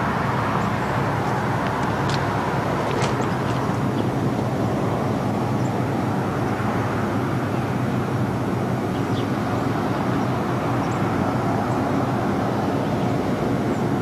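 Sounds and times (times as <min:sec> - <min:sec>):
distant vehicle rumble: 0:00.0 - 0:14.0.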